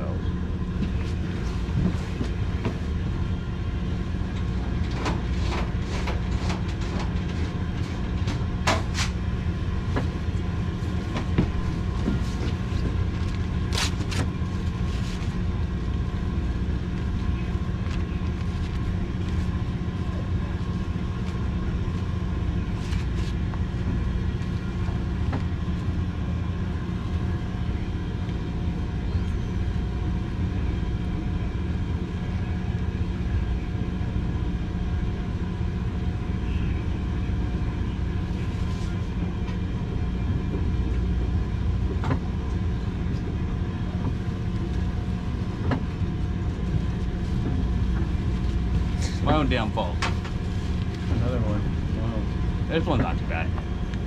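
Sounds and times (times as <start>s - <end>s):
boat machinery drone: 0.0s - 54.0s.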